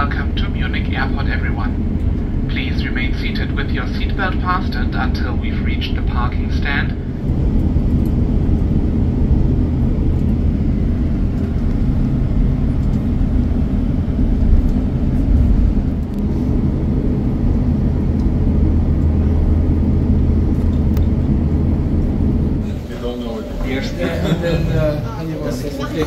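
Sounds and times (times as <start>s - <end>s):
vehicle interior rumble: 0.0s - 26.0s.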